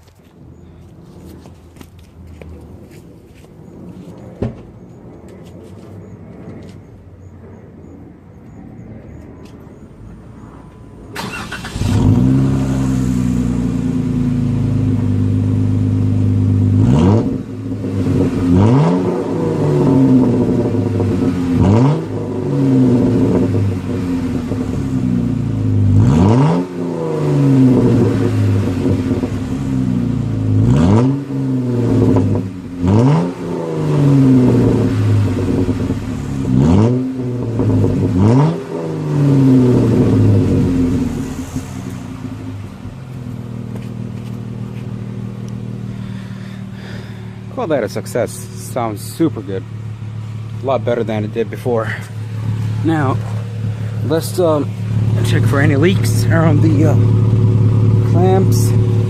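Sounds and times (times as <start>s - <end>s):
car engine starting and revving: 11.1s - 59.0s.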